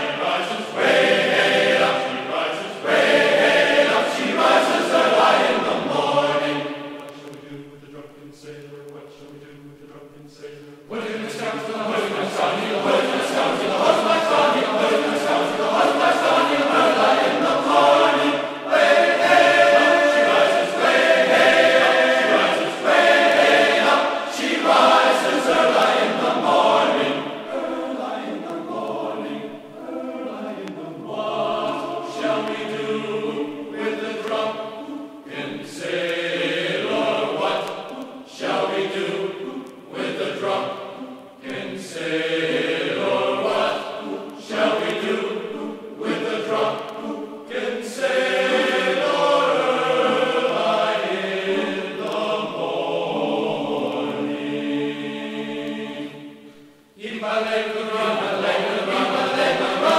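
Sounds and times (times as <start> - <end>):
choir singing chant-like music: 0.0 - 59.9.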